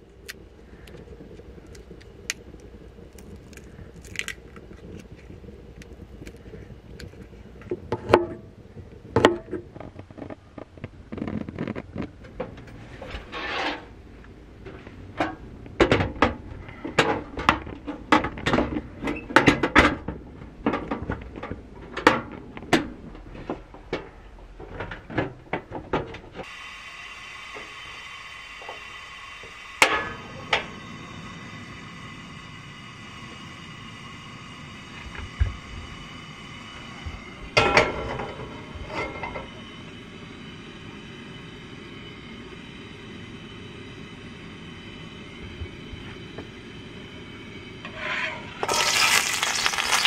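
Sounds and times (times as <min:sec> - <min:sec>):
steady hum: 0:00.0 - 0:19.1, 0:26.3 - 0:50.0.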